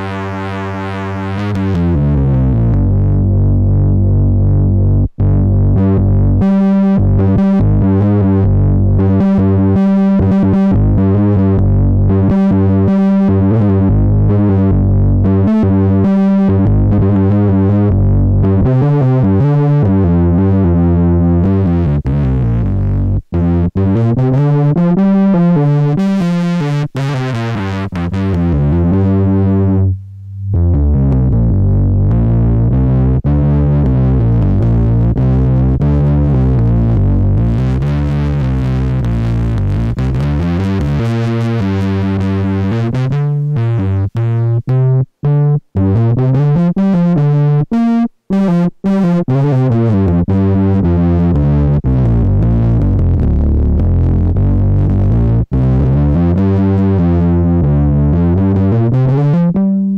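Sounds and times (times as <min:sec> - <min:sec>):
distorted synthesizer low notes: 0:00.0 - 0:59.9.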